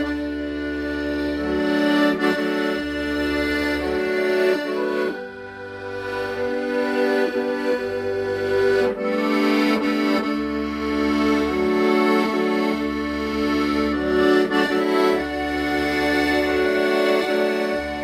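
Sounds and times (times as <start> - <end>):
accordion playing slow melody: 0.0 - 18.0.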